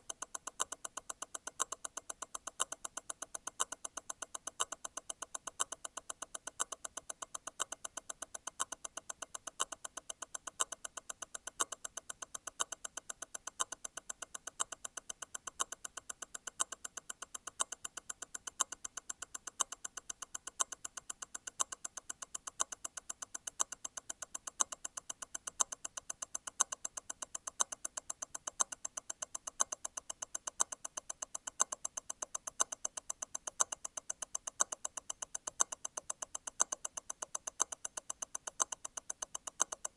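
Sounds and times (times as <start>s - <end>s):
watch movement ticking: 0.0s - 39.9s.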